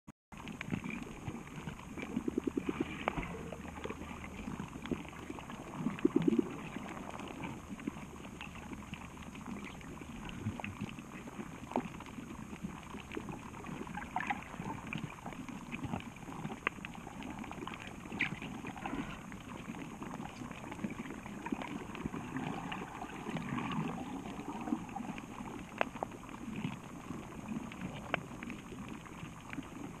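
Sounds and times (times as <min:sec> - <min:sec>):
underwater bubbling and gurgling: 0:00.3 - 0:30.0.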